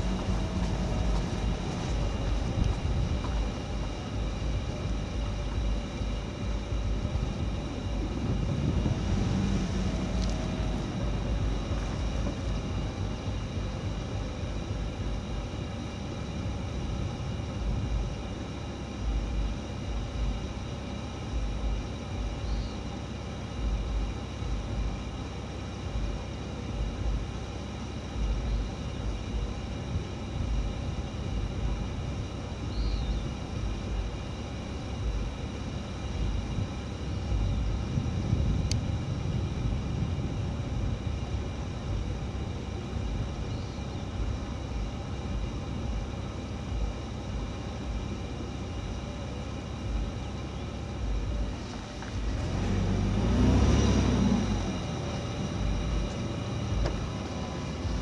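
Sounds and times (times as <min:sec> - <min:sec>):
engine running: 0:00.0 - 0:58.0
uneven low rumble: 0:00.0 - 0:58.0.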